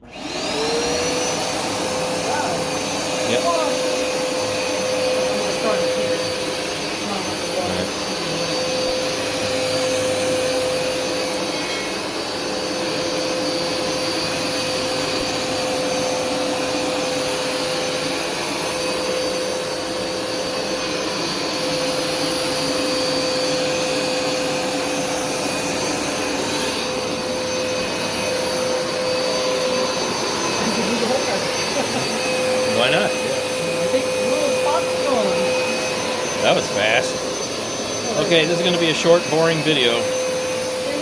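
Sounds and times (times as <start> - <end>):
carpet washer motor humming: 0.0 - 41.0.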